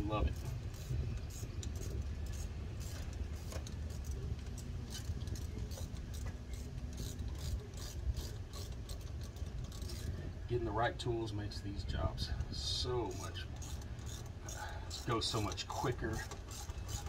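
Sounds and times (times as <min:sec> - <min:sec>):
low steady rumble: 0:00.0 - 0:17.0
ratcheting wrench clicking: 0:00.4 - 0:10.2, 0:13.0 - 0:17.0.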